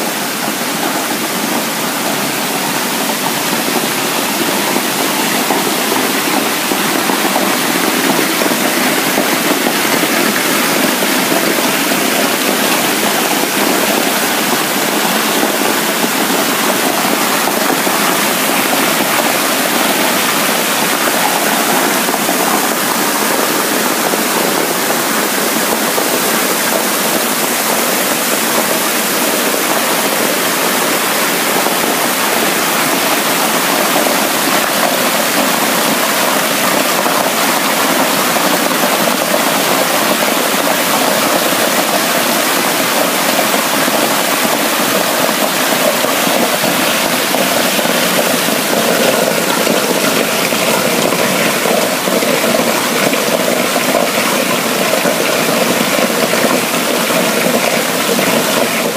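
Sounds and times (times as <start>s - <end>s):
water streams splashing into pool: 0.0s - 58.9s.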